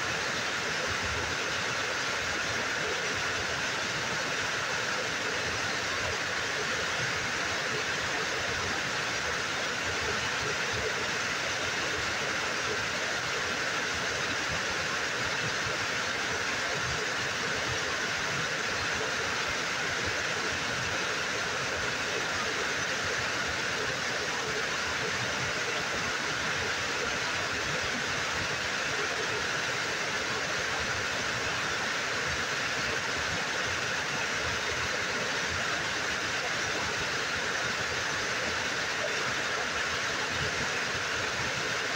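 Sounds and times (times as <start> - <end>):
waterfall rushing into pool: 0.0 - 41.9.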